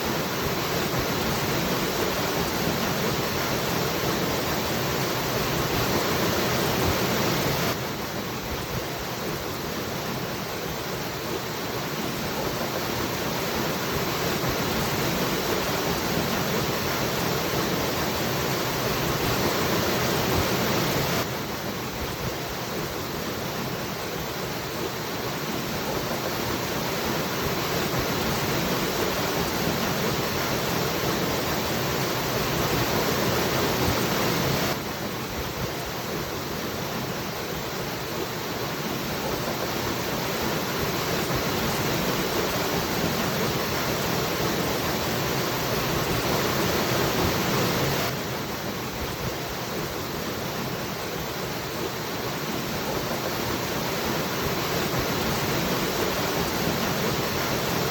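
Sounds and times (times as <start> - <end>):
waterfall rushing water: 0.0 - 57.9.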